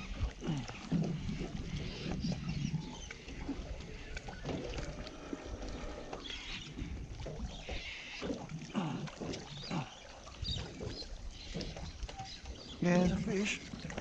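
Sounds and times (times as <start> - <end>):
light knocks and splashes: 0.0 - 14.0
water lapping against boat hull: 0.0 - 14.0.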